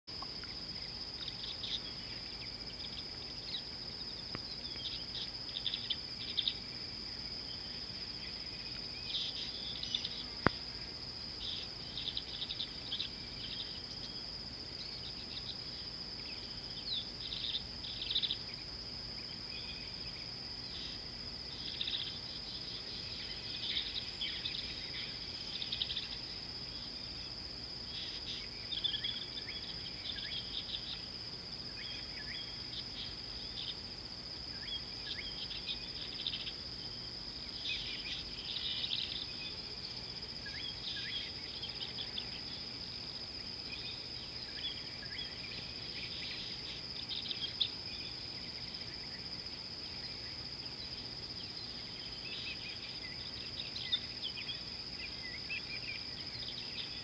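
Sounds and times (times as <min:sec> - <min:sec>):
high insect drone: 0:00.1 - 0:57.0.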